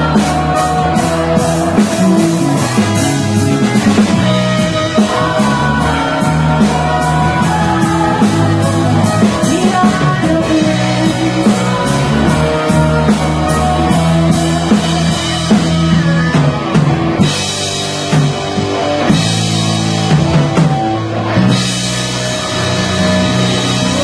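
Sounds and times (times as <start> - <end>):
drum kit steady beat: 0.0 - 24.0
electric guitar chords: 0.0 - 24.0
live rock band: 0.0 - 24.0.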